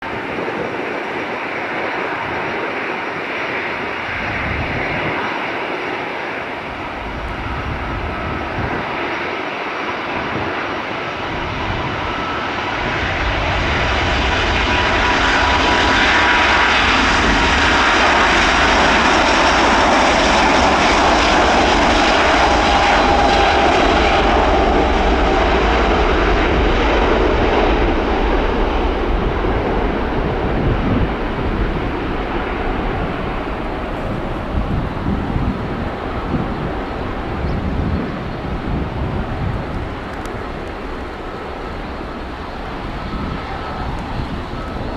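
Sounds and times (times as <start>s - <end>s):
jet engines at takeoff: 0.0s - 44.9s.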